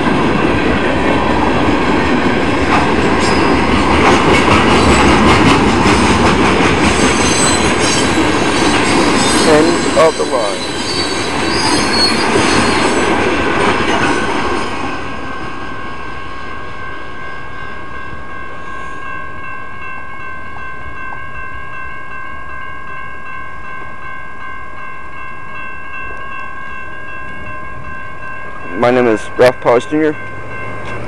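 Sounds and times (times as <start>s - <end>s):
freight train cars rolling: 0.0s - 21.7s, 25.1s - 31.0s
crossing warning bells: 0.0s - 31.0s.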